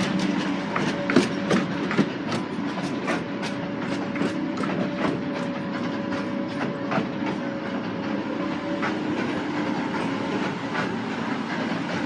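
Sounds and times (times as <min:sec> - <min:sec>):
train rumble: 0:00.0 - 0:12.0
wheels clicking over rail joints: 0:00.0 - 0:12.0.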